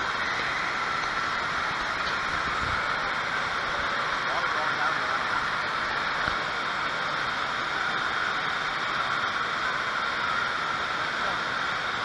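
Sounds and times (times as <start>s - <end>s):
indoor water park din: 0.0s - 12.0s
water pouring and spraying: 0.0s - 12.0s.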